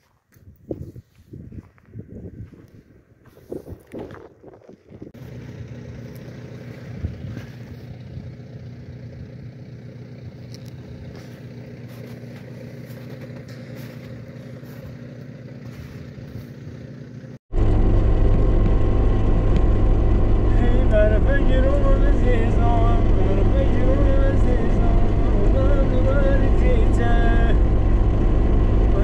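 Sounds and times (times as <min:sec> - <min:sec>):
engine running steadily: 0:02.0 - 0:29.0
loud engine: 0:05.1 - 0:29.0.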